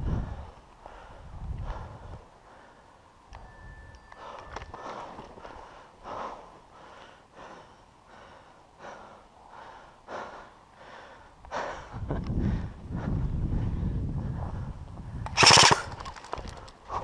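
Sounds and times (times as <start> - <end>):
person breathing hard: 0.0 - 3.1, 4.2 - 14.8.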